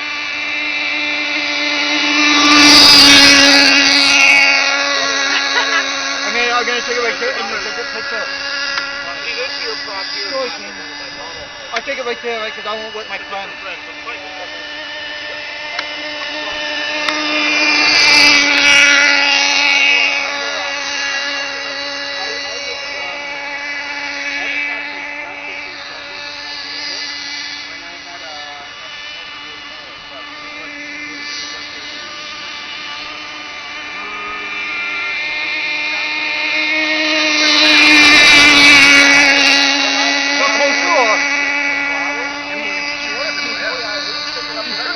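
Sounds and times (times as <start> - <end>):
small two-stroke boat engine: 0.0 - 44.9.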